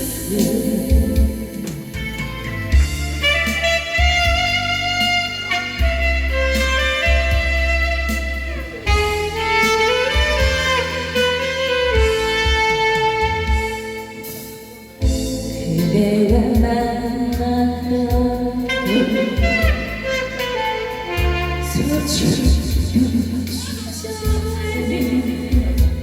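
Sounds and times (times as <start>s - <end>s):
saxophone melody: 0.0s - 15.6s, 17.9s - 26.0s
electronic keyboard backing: 0.0s - 26.0s
steady bass beat: 0.0s - 26.0s.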